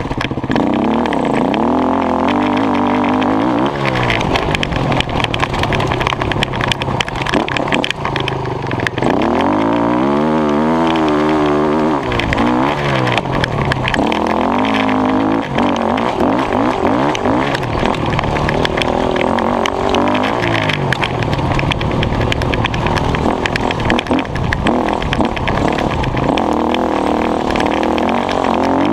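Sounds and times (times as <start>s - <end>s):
constant rough noise: 0.0s - 28.9s
dirt bike engine revving: 0.0s - 28.9s.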